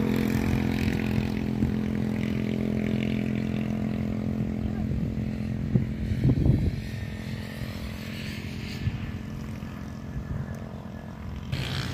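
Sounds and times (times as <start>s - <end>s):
engine drone: 0.0s - 11.9s.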